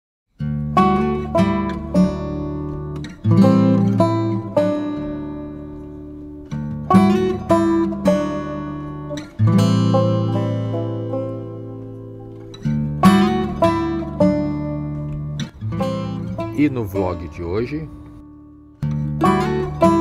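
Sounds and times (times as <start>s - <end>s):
acoustic guitar strummed chords: 0.4s - 20.0s.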